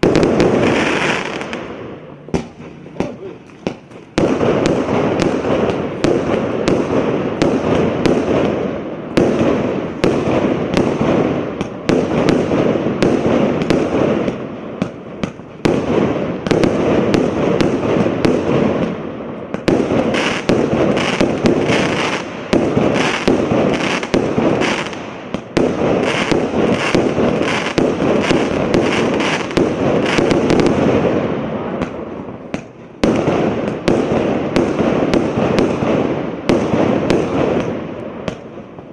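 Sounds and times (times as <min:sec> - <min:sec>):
firework cake firing sharp shots: 0:00.0 - 0:38.6.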